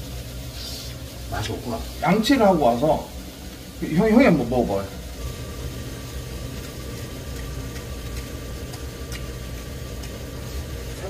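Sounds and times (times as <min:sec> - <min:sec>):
beef sizzling in a hot pan: 0:00.0 - 0:11.0
steady low hum: 0:00.0 - 0:11.0
thin steady whine: 0:00.0 - 0:11.0.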